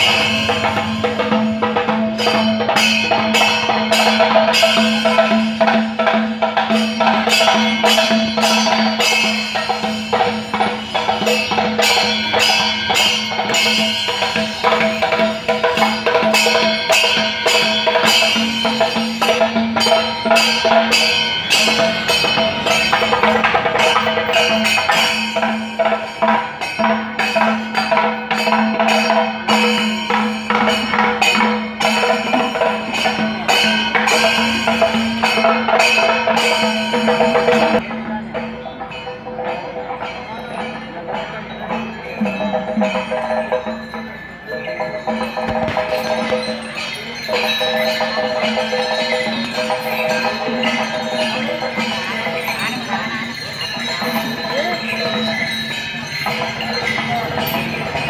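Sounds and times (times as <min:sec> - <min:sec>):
drums beating fast rhythm: 0:00.0 - 0:58.0
hand cymbals: 0:00.0 - 0:58.0.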